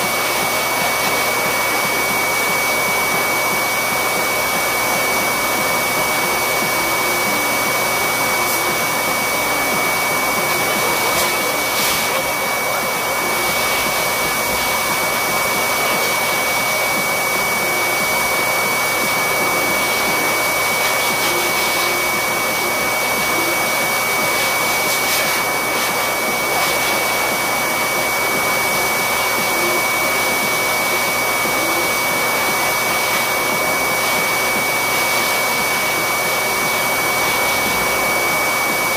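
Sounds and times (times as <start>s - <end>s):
electric clippers whining: 0.0s - 38.9s.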